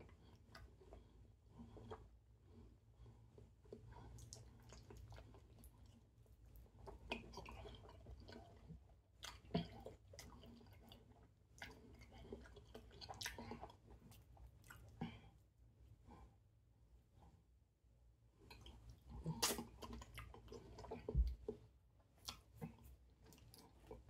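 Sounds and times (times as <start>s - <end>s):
man chewing food: 0.0s - 16.4s, 18.3s - 24.0s
low room hum: 0.0s - 24.0s.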